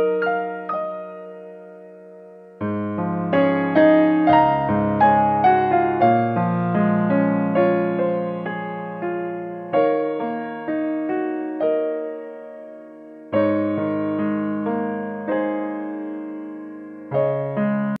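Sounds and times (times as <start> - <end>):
slow gentle piano tune: 0.0 - 18.0.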